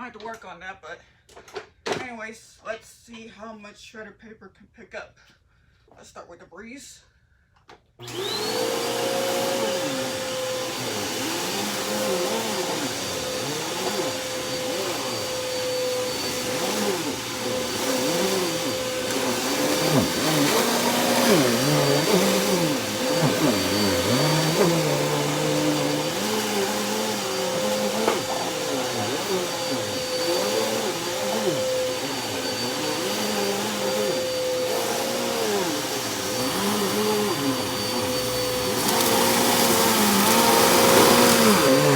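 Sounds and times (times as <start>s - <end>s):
vacuum cleaner motor whine: 8.0s - 41.9s.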